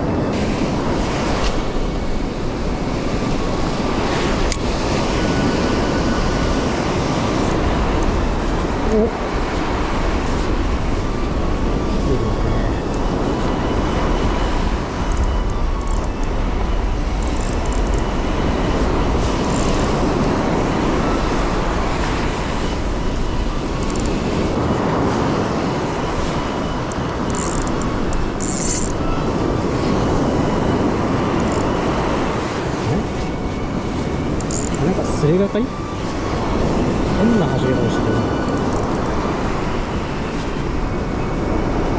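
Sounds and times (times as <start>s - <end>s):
breaking surf: 0.0s - 41.9s
wind buffeting the microphone: 0.0s - 41.9s.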